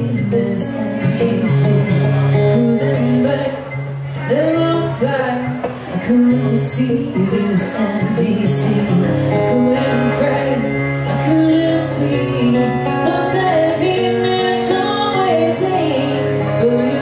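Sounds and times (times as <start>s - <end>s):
strummed acoustic guitar: 0.0s - 17.0s
woman singing: 0.0s - 17.0s.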